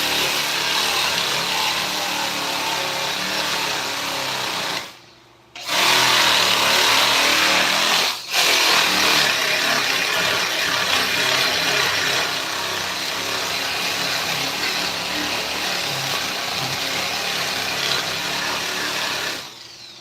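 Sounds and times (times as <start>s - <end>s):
power tool cutting wood: 0.0s - 5.0s, 5.6s - 20.0s.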